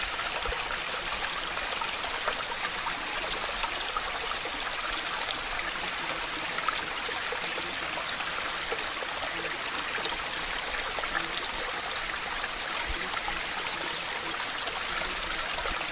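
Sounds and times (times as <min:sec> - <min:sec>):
steady rain: 0:00.0 - 0:15.9.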